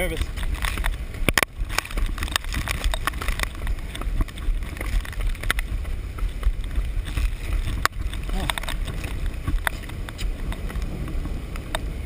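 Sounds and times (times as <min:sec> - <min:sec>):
muffled wind rumble: 0:00.0 - 0:12.0
clicks and knocks against camera case: 0:00.2 - 0:11.9.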